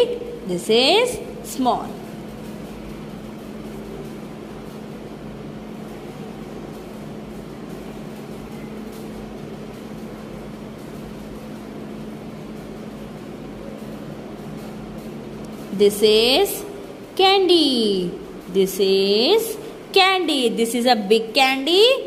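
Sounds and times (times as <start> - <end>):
machine hum with low tone: 0.0 - 22.0.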